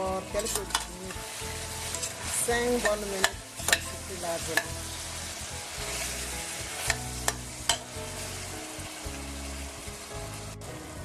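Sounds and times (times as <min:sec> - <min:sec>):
sauce sizzling in oil: 0:00.0 - 0:11.0.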